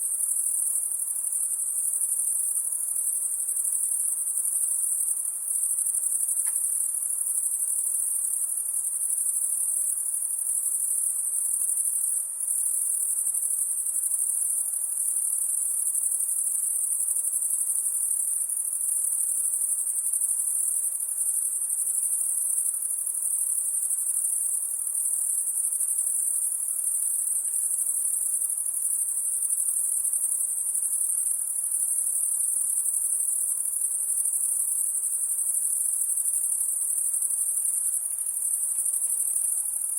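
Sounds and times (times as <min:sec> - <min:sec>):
insect chorus trilling: 0:00.1 - 0:39.9.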